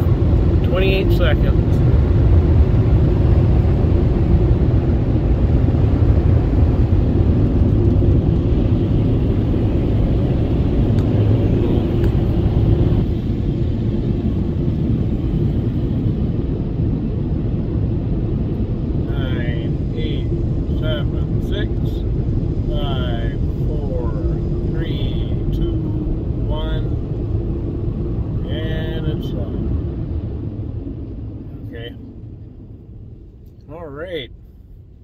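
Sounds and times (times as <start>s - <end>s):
car wash machinery rumbling: 0.0s - 35.0s.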